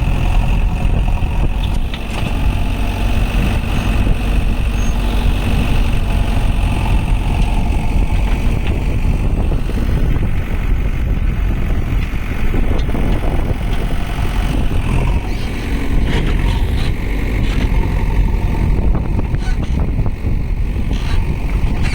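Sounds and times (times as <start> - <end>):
diesel engine rumbling: 0.0 - 21.9.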